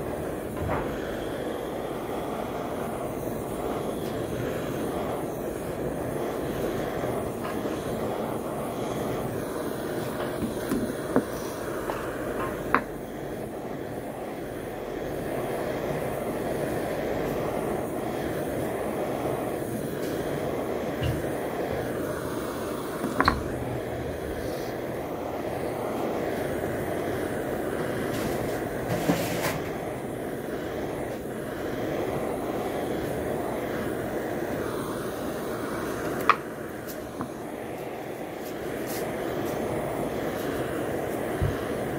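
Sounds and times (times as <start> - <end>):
torch flame rushing: 0.0 - 41.9.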